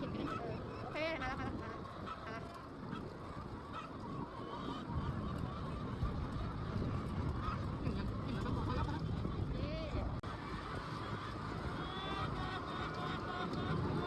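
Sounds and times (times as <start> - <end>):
chickens clucking and squawking: 0.0 - 14.0.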